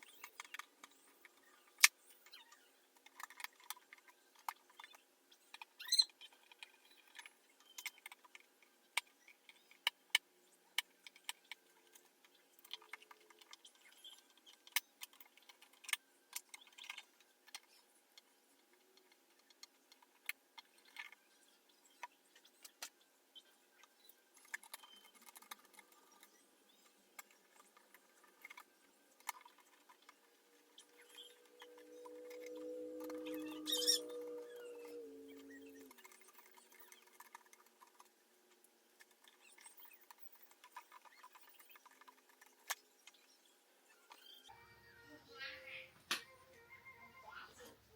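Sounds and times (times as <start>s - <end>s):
small parts clicking and rattling: 0.0s - 23.0s, 23.8s - 34.0s, 35.3s - 43.3s.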